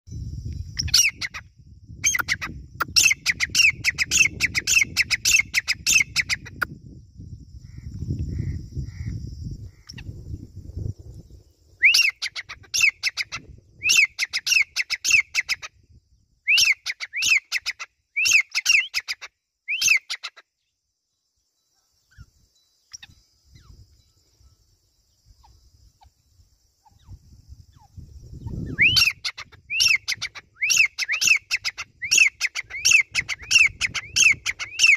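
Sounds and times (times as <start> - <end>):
francolin calling: 0.1 - 34.9.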